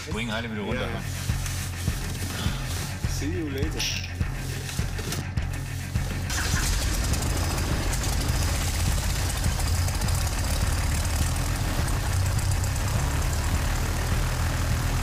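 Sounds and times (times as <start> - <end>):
plane engine idling: 0.8 - 15.0.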